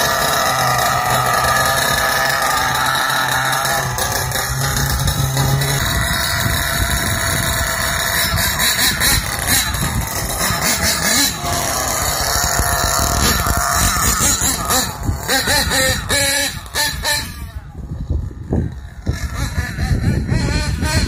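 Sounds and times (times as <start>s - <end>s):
small two-stroke engine revving: 0.0s - 21.0s.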